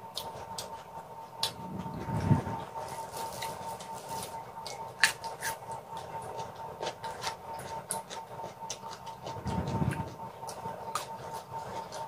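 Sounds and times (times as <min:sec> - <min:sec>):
wet crunchy chewing: 0:00.0 - 0:12.0.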